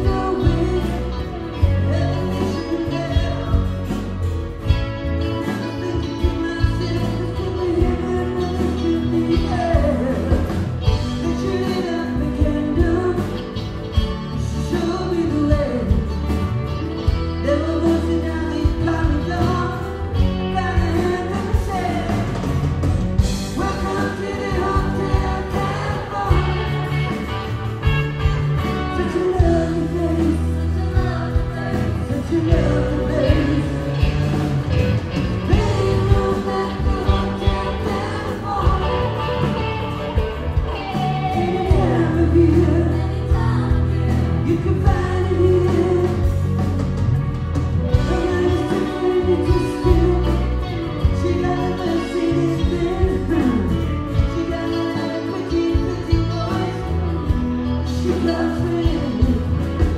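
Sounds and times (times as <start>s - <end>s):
bass: 0.0s - 59.9s
drums: 0.0s - 59.9s
guitar: 0.0s - 59.9s
lead singer singing: 0.0s - 59.9s.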